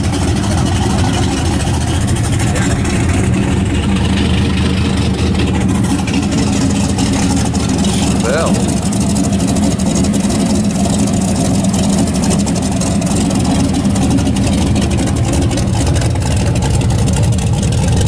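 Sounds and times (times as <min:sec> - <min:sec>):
car engine with deep exhaust: 0:00.0 - 0:18.0.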